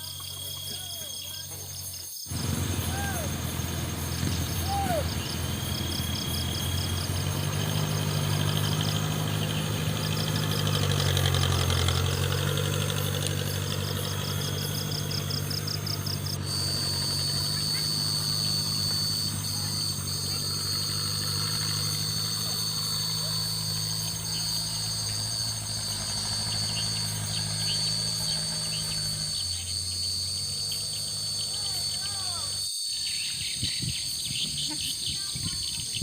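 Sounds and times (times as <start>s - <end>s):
engine idling: 0.0s - 33.7s
insects chirping: 0.0s - 36.0s.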